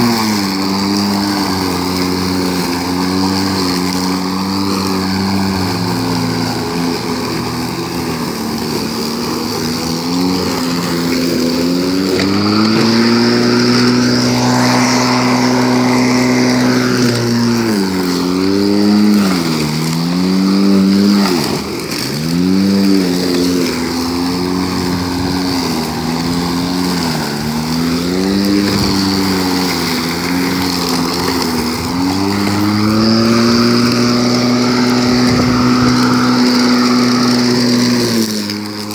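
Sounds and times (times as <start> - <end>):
electric lawnmower cutting grass: 0.0 - 38.9.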